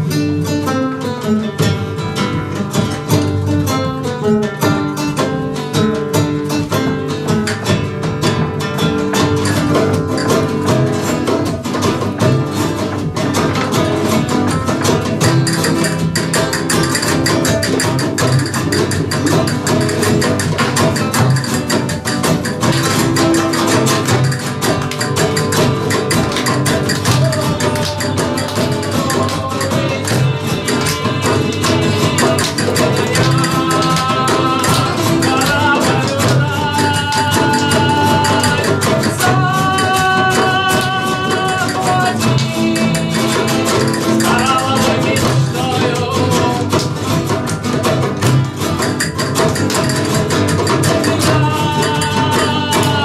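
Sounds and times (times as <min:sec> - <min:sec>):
flamenco acoustic guitars: 0:00.0 - 0:53.0
hand drum: 0:00.0 - 0:53.0.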